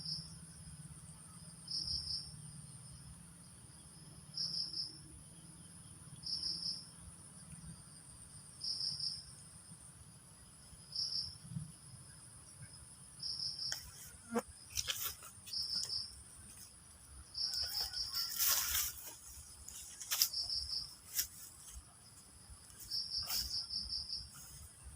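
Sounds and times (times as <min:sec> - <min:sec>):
insects chirping: 0:00.0 - 0:24.9.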